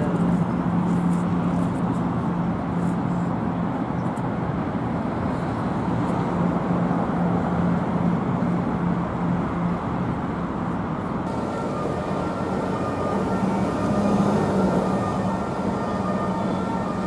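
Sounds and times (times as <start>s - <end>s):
engine low hum: 0.0s - 17.0s.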